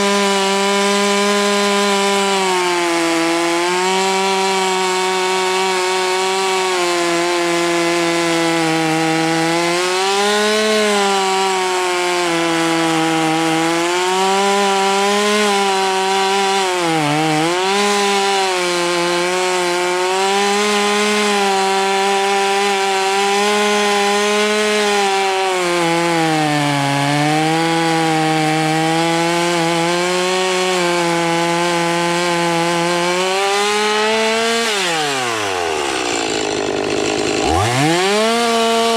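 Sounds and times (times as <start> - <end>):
chainsaw cutting into tree: 0.0 - 38.9.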